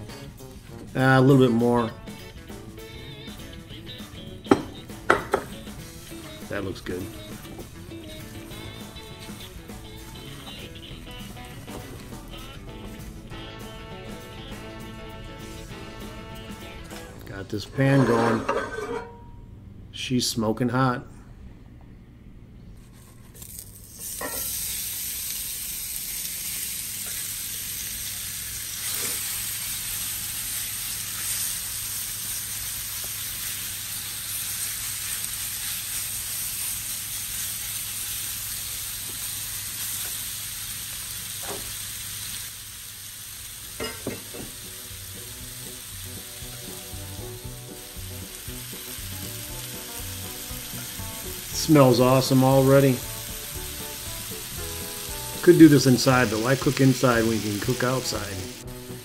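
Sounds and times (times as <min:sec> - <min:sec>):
steak sizzling in a skillet: 0:02.1 - 0:16.9, 0:23.4 - 0:59.0.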